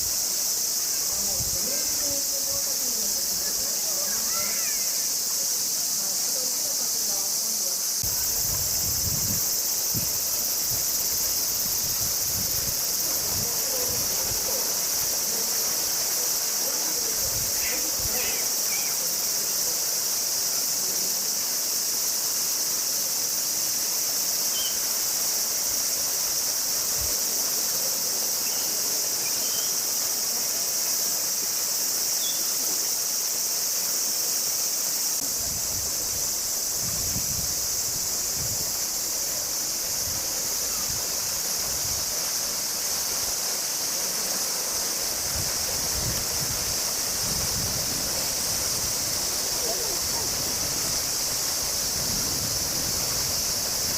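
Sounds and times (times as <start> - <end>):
cicada chorus drone: 0.0 - 53.9.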